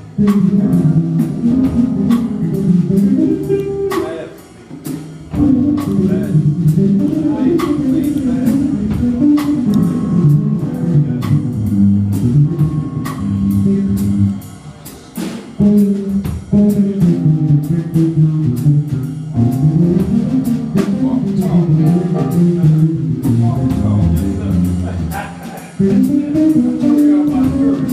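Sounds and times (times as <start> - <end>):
drum hits: 0.0 - 27.9
live band playing: 0.0 - 27.9.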